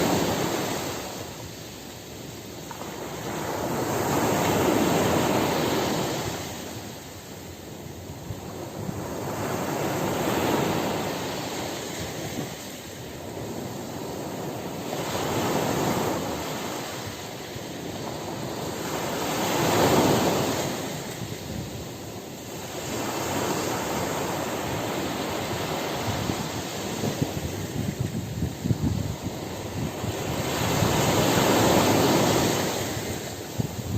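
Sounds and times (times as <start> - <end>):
sea waves washing ashore: 0.0 - 33.9.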